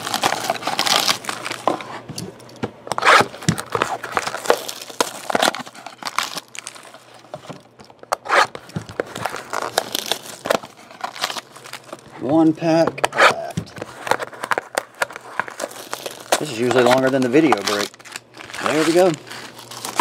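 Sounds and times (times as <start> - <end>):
plastic wrapping crinkling and tearing: 0.0 - 2.0, 2.9 - 12.7, 13.3 - 20.0.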